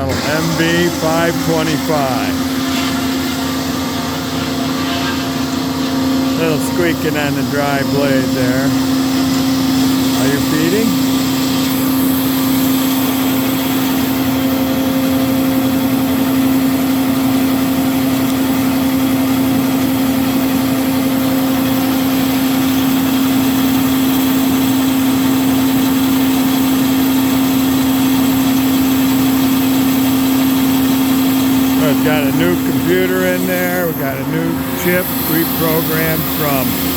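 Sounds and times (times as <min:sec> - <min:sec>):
bandsaw cutting steel tube: 0:00.0 - 0:36.9.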